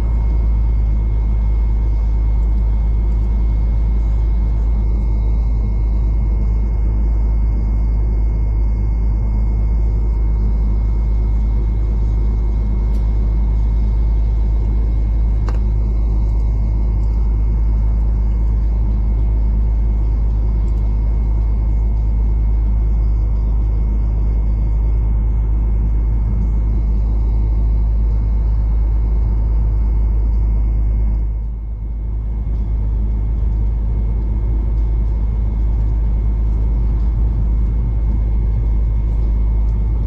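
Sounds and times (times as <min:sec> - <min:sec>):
train rumble inside carriage: 0:00.0 - 0:40.0.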